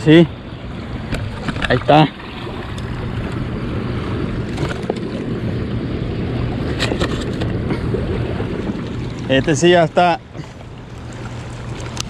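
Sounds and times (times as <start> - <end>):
constant low hum: 0.0 - 12.0
water rushing: 0.0 - 12.0.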